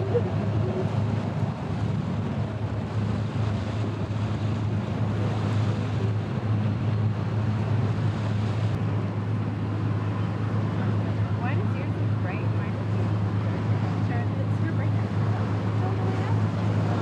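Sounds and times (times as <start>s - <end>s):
boat engine droning: 0.0s - 17.0s
water rushing along hull: 0.0s - 17.0s
wind on microphone: 0.0s - 17.0s.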